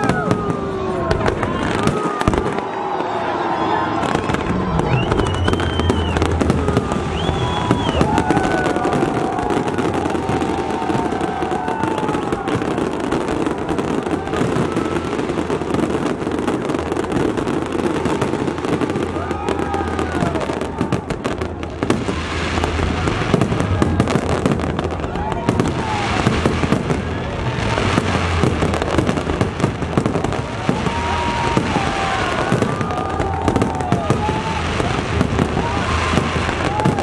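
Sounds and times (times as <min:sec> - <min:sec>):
fireworks crackling: 0:00.0 - 0:37.0.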